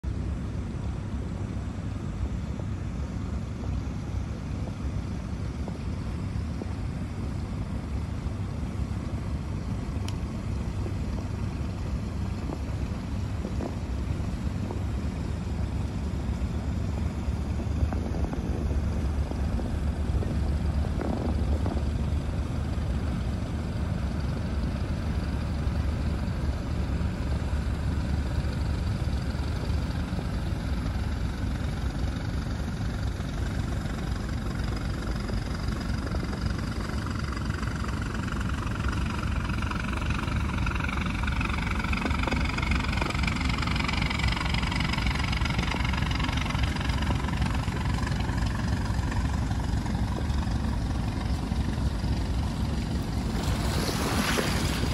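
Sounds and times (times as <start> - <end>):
boat engine droning: 0.0 - 54.9
river water rushing along hull: 0.1 - 54.9.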